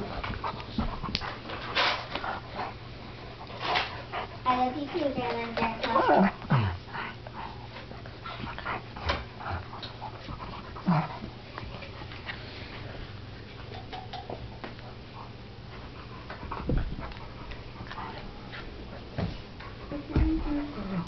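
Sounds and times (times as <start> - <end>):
dogs panting: 0.0 - 21.0.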